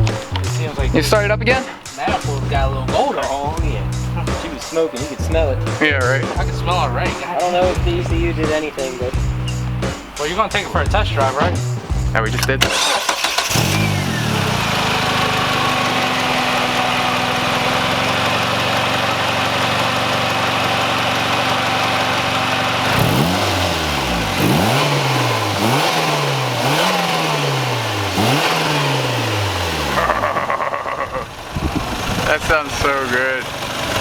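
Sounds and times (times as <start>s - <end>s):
engine revving in throttle blips: 0.0s - 34.0s
turbo car engine idling: 0.0s - 34.0s.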